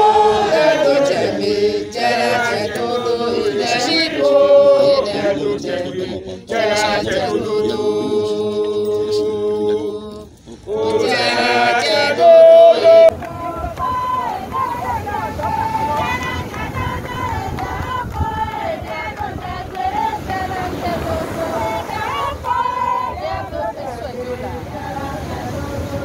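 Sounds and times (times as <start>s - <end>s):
voices singing a chant: 0.0s - 26.0s.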